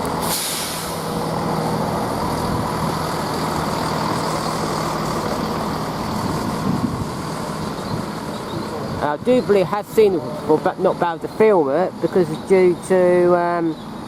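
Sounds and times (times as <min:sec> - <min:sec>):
train diesel engines idling: 0:00.0 - 0:14.0.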